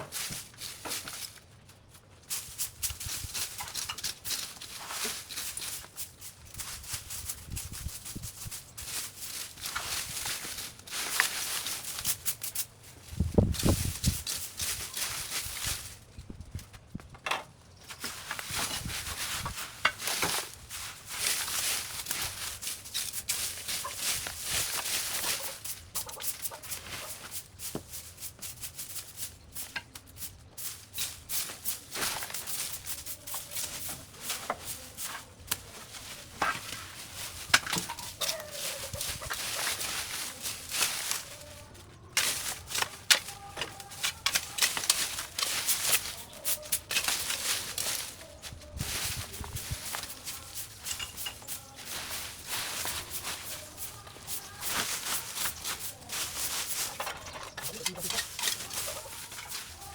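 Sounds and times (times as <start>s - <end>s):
brush rustling and snapping: 0.0s - 59.9s.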